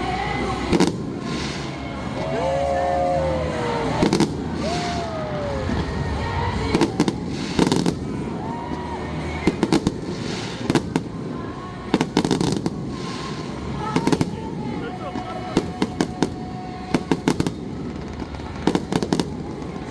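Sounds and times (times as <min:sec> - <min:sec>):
crowd hum: 0:00.0 - 0:19.9
fireworks bursting: 0:00.0 - 0:19.9.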